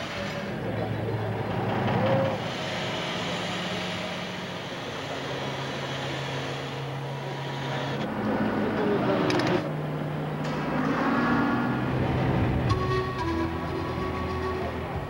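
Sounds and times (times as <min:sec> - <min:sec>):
crane engine running under load: 0:00.0 - 0:15.0.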